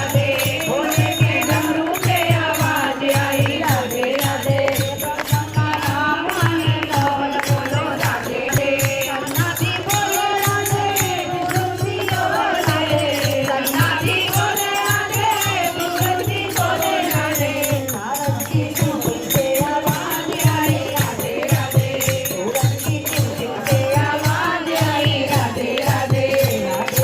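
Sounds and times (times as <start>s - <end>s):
jingling rattling percussion: 0.0s - 27.0s.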